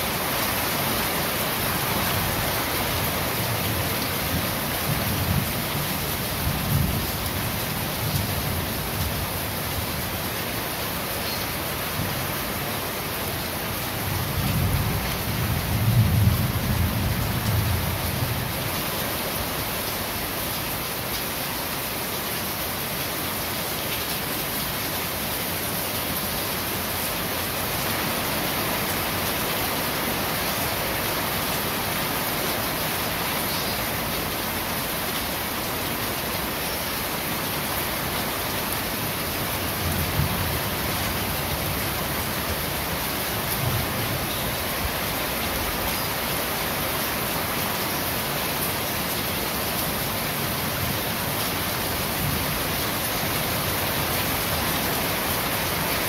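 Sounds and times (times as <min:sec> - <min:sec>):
rain on a corrugated roof: 0:00.0 - 0:56.0.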